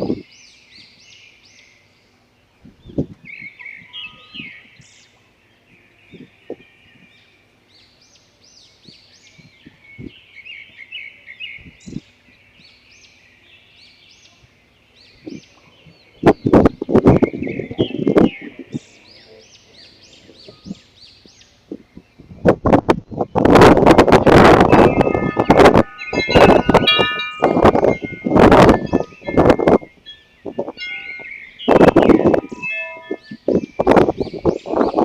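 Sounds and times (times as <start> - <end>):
wind buffeting microphone: 0.0 - 1.1, 2.5 - 5.0, 5.7 - 7.2, 8.8 - 10.8, 11.4 - 12.7, 14.0 - 35.0
small birds chirping: 0.0 - 35.0.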